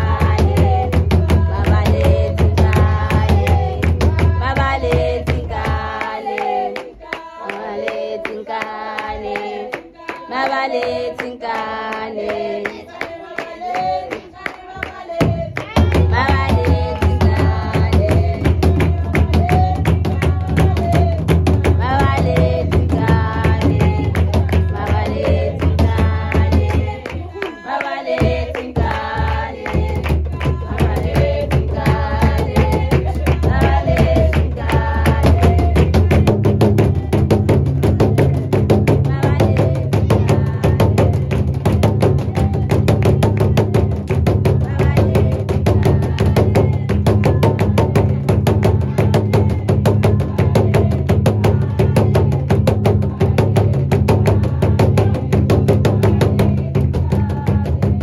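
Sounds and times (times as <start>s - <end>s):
song with vocals and drums: 0.0s - 58.0s.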